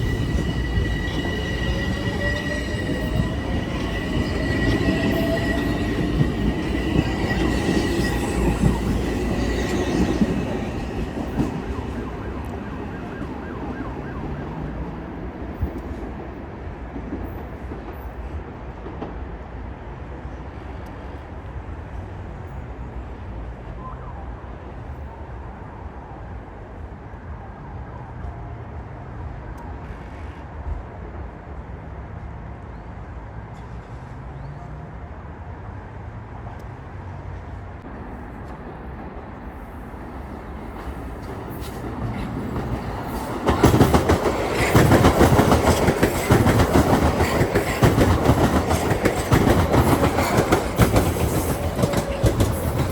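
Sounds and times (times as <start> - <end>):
commuter train passing: 0.0 - 52.9.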